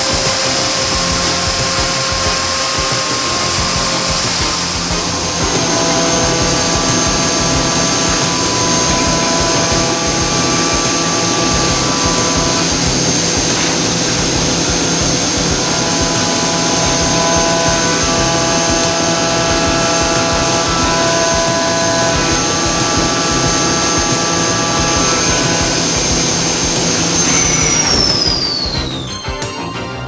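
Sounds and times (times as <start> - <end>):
milling machine running: 0.0 - 29.1
high steady whine: 0.0 - 29.6.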